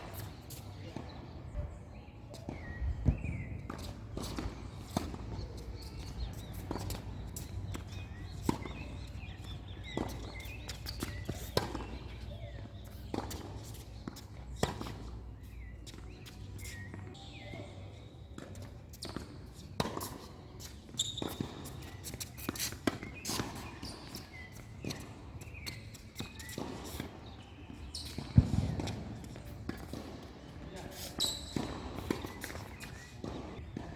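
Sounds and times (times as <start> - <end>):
tennis ball bouncing: 2.3 - 17.0, 20.9 - 33.9
racket hitting tennis ball: 3.1 - 16.9, 19.8 - 33.9.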